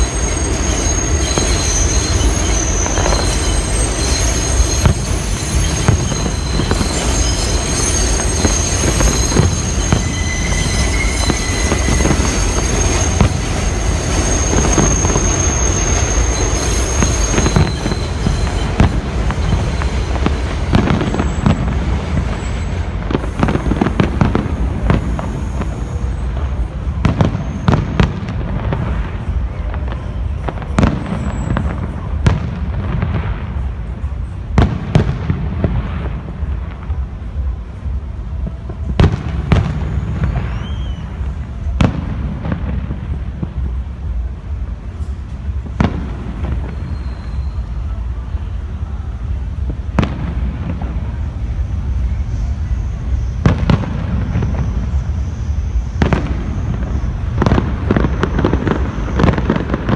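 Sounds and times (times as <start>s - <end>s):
fireworks bangs: 0.0s - 59.9s
train rumble: 0.0s - 59.9s
train wheel squeal: 0.0s - 59.9s.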